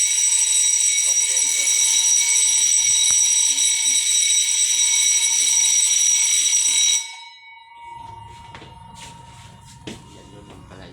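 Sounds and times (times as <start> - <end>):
high-pitched fire alarm tone: 0.0 - 10.9.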